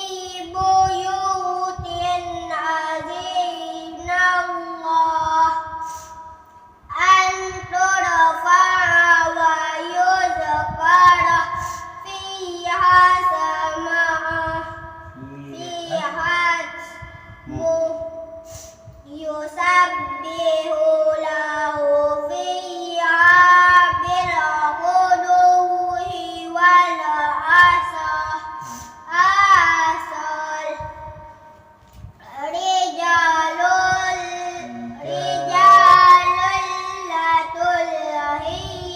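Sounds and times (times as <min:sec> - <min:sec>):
child chanting melodically: 0:00.0 - 0:31.5, 0:32.2 - 0:38.9.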